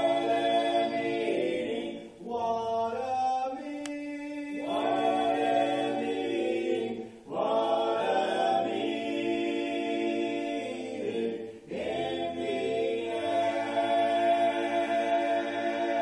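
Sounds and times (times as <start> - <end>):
a cappella group singing in harmony: 0.0 - 16.0.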